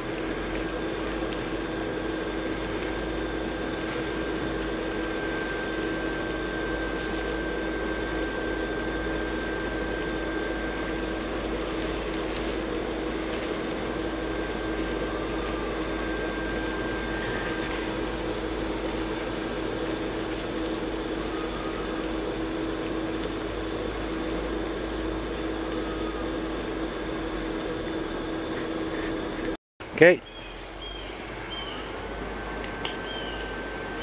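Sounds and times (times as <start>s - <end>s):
electric blower fan humming: 0.0s - 34.0s.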